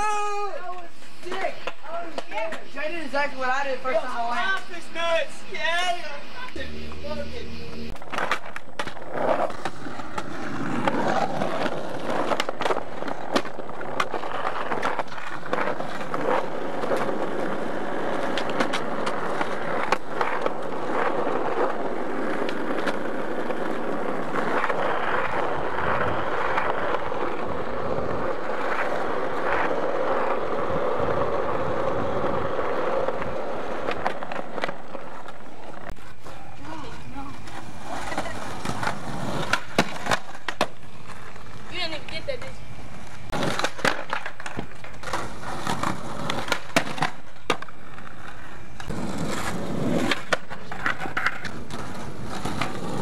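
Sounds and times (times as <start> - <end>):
skateboard wheels rolling on pavement: 0.0 - 53.0
skateboard clacking: 0.1 - 3.2, 3.9 - 53.0.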